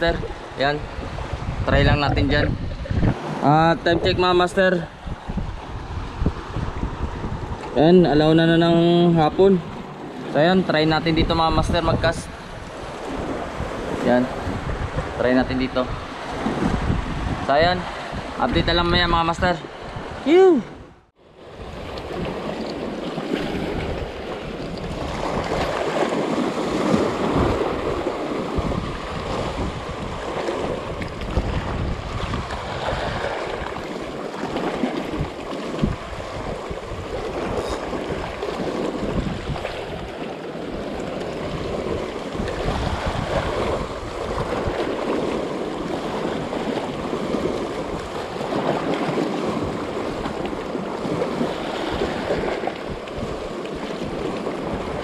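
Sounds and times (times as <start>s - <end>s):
waves splashing over rocks: 0.0s - 20.6s, 21.2s - 55.0s
wind rumbling on microphone: 0.0s - 55.0s.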